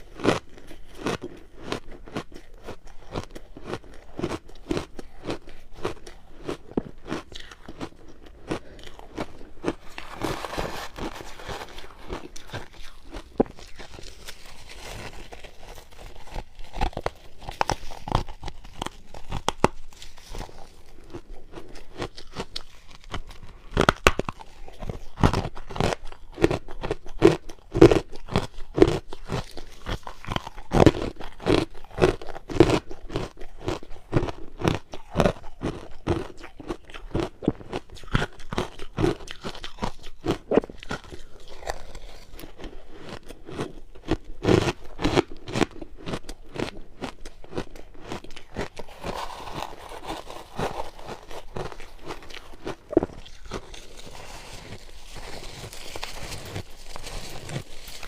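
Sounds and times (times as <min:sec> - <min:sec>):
grainy crackling of ice: 0:00.0 - 0:58.0
ice crunching while chewed: 0:00.0 - 0:58.0.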